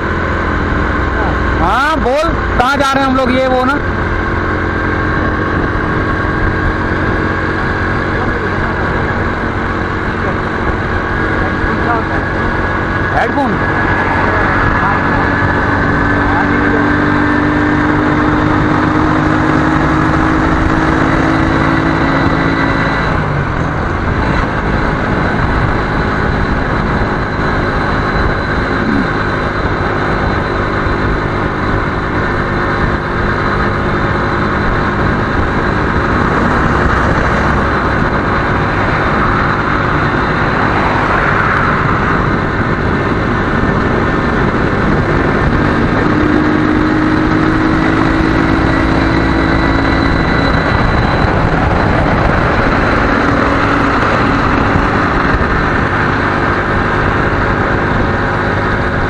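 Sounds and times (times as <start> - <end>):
motorcycle engine hum: 0.0 - 59.0
wind and road noise: 0.0 - 59.0.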